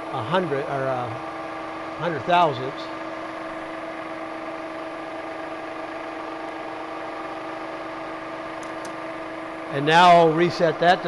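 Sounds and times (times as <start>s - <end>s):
milling machine motor humming: 0.0s - 11.0s.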